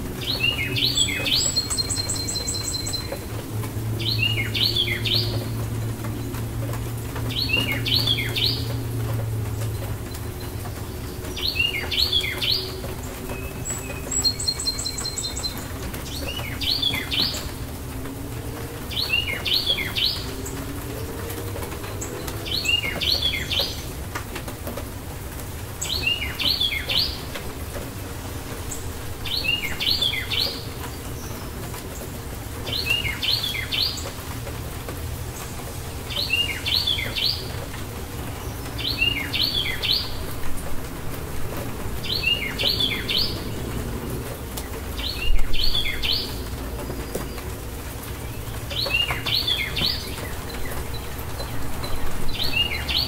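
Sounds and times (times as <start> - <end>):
songbird chirping: 0.1 - 24.2, 25.3 - 53.0.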